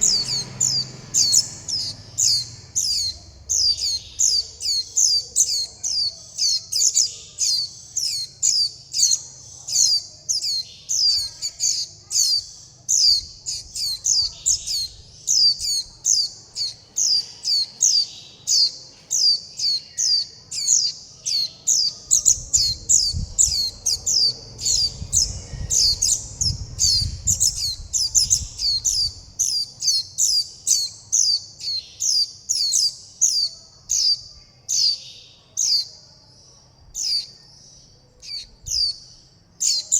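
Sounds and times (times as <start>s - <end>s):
young bird begging calls: 0.0s - 18.8s, 19.6s - 34.2s.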